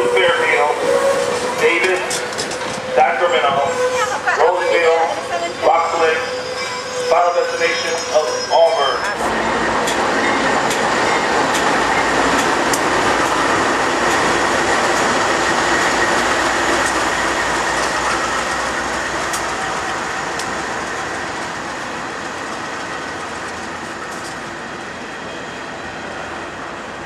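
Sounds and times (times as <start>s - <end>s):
freight train passing: 0.0s - 27.0s.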